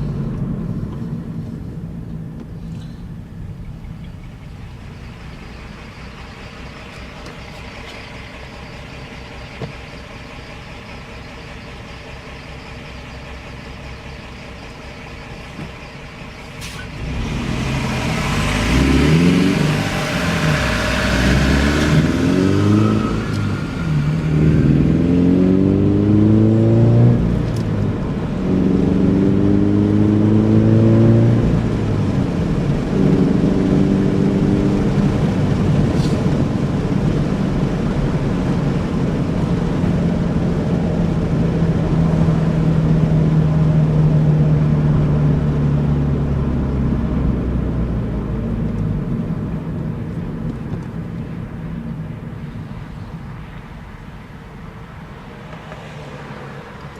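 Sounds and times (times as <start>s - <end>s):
car exhaust accelerating through gears: 0.0s - 56.9s.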